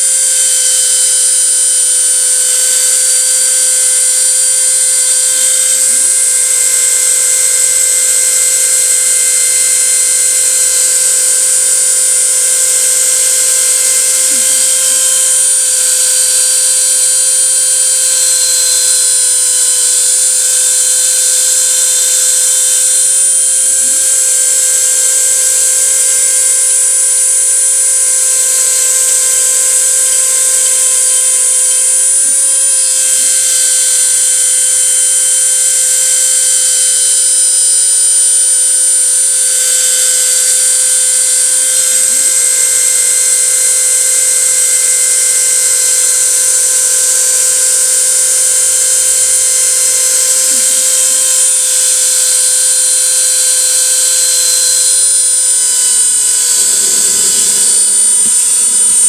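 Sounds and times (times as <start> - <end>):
router spindle high-pitched whine: 0.0 - 59.0.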